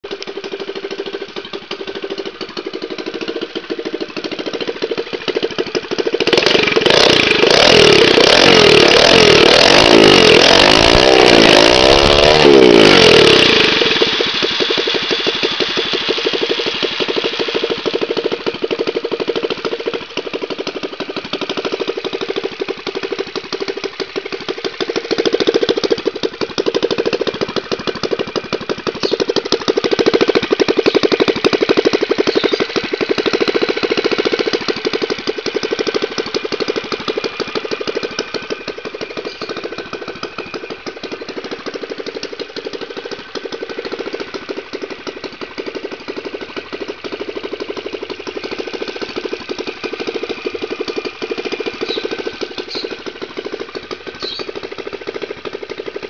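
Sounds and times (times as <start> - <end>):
motorized bicycle engine revving: 4.2 - 56.0.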